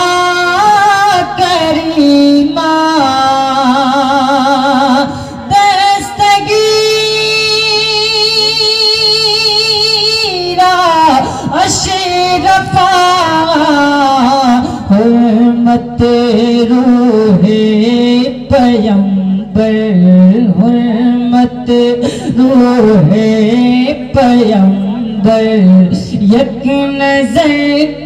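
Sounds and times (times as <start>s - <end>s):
man singing through a microphone: 0.0s - 28.0s.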